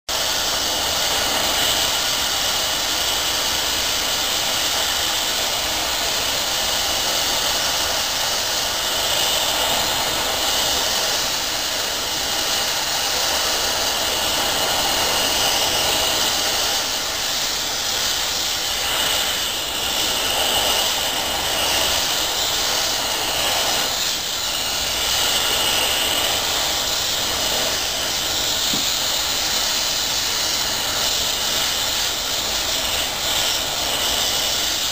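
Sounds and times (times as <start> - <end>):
furnace burner hissing: 0.1 - 34.9.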